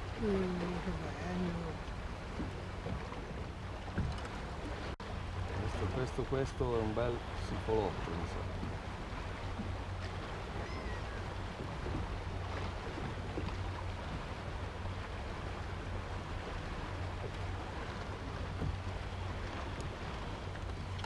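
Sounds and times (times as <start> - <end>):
low steady rumble: 0.0 - 21.0
waves lapping against boat hull: 0.0 - 21.0
wind: 0.0 - 21.0.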